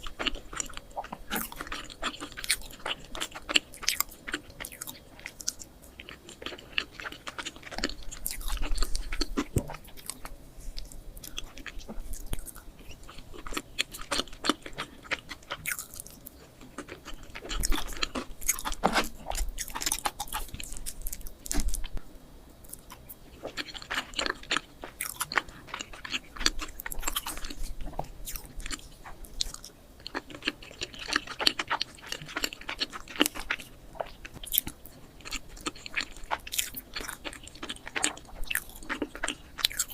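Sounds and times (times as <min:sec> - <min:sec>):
person chewing cake: 0:00.0 - 0:22.0, 0:22.7 - 0:39.9.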